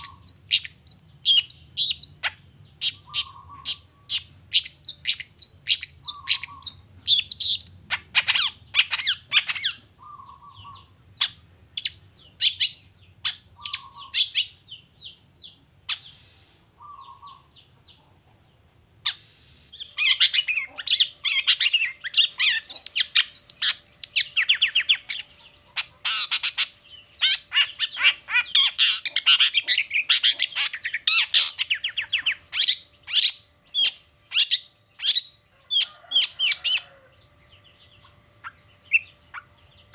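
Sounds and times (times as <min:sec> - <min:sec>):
bird squawks and trills: 0:00.0 - 0:14.6, 0:19.0 - 0:37.0.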